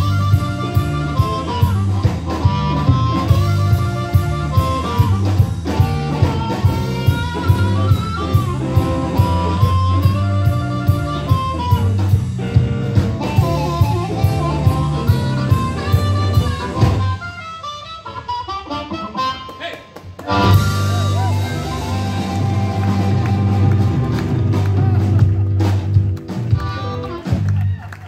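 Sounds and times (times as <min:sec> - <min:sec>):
drum kit beat: 0:00.0 - 0:18.1, 0:19.0 - 0:27.8
guitar: 0:00.0 - 0:28.0
live blues band: 0:00.0 - 0:28.0.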